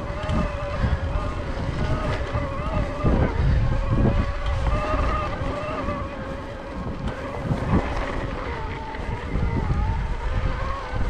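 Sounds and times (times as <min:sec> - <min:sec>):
electric bike motor whining: 0:00.0 - 0:11.0
wind noise on microphone: 0:00.0 - 0:11.0.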